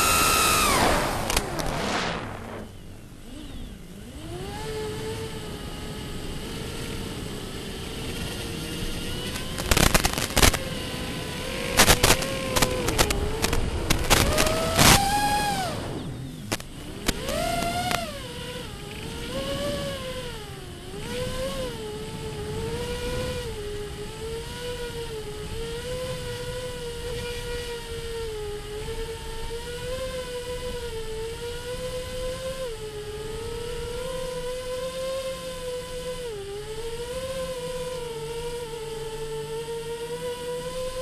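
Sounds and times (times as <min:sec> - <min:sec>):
drone propellers whining: 0:00.0 - 0:41.0
low rumble of wind: 0:00.0 - 0:41.0.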